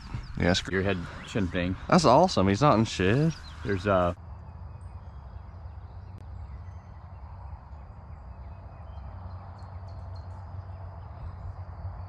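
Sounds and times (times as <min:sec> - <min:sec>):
high insect tone: 0:00.0 - 0:12.0
wind rumbling on microphone: 0:00.0 - 0:12.0.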